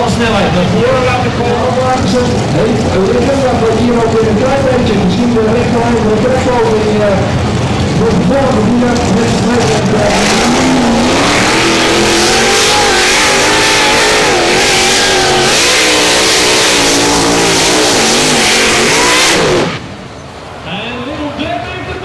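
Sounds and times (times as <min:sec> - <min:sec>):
tractor engine at full throttle: 0:00.0 - 0:20.5.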